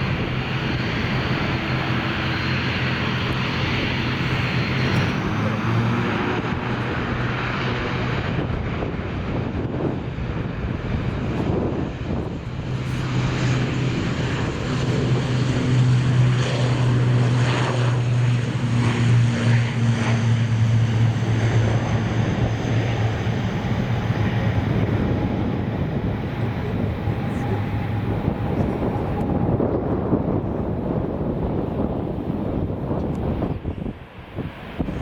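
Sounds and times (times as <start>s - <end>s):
turboprop airliner passing: 0.0s - 35.0s.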